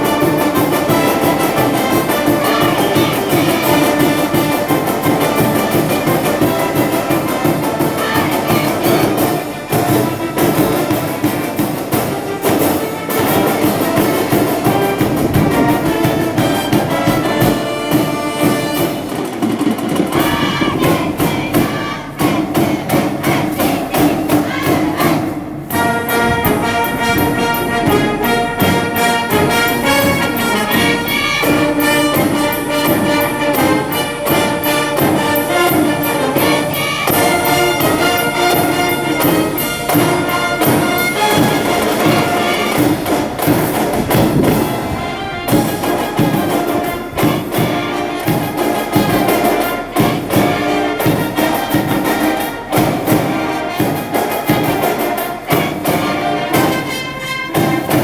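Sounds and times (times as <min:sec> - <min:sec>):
brass band playing: 0:00.0 - 0:58.0
quick steady drum beat: 0:00.0 - 0:58.0.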